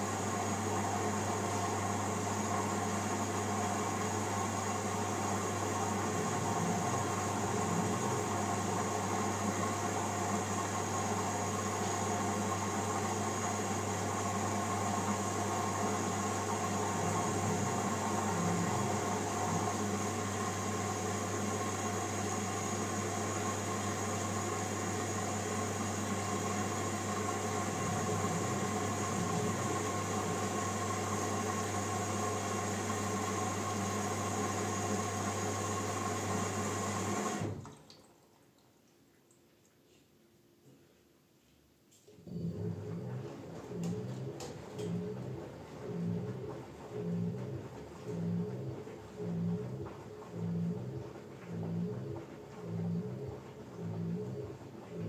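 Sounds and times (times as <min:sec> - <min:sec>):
washing machine motor humming: 0:00.0 - 0:37.9, 0:42.1 - 0:55.0.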